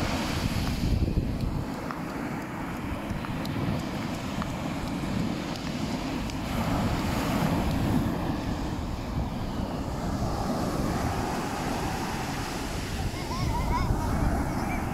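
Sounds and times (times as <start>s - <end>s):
sea surf breaking on shore: 0.0s - 14.9s
wind buffeting microphone: 0.0s - 14.9s.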